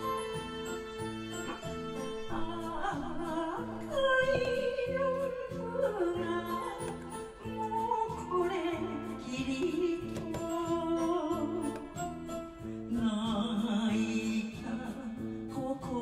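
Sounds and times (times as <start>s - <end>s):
karaoke backing track: 0.0s - 16.0s
woman singing with vibrato: 2.0s - 16.0s.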